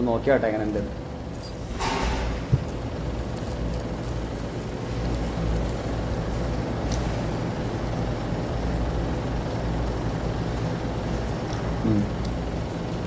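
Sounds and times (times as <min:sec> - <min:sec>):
faint hum: 0:00.0 - 0:13.0
low mechanical rumble: 0:00.0 - 0:13.0.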